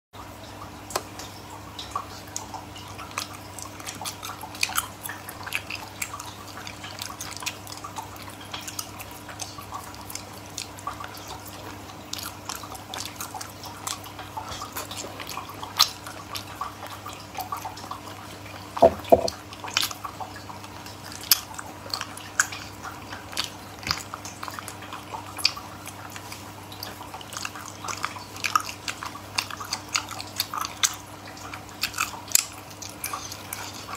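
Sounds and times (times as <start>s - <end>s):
wet mouth eating sounds: 2.4s - 17.7s, 21.1s - 33.9s.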